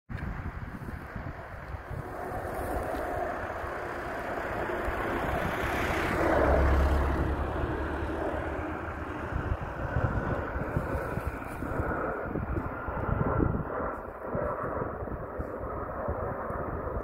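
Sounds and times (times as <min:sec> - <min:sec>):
jet planes flying past: 0:00.1 - 0:17.0.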